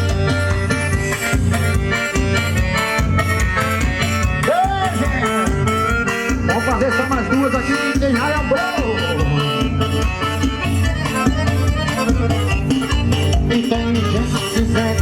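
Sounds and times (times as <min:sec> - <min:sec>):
accordion band music: 0:00.0 - 0:15.0.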